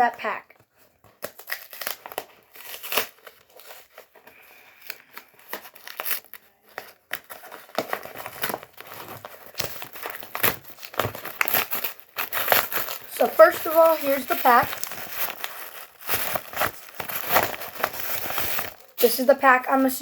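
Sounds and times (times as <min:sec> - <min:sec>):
packaging crinkling and tearing: 0:00.8 - 0:20.0.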